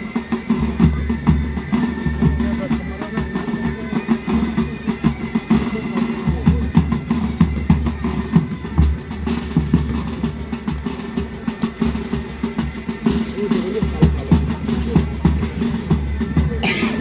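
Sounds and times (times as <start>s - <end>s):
military band playing: 0.0s - 17.0s.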